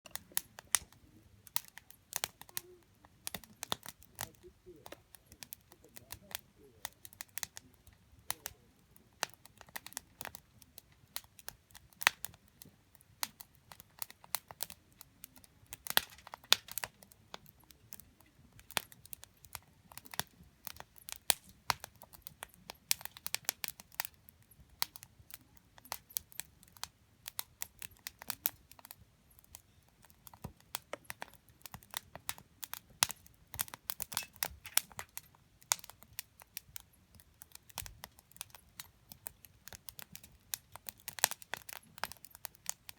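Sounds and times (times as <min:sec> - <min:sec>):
logs crackling and popping: 0:00.0 - 0:42.9.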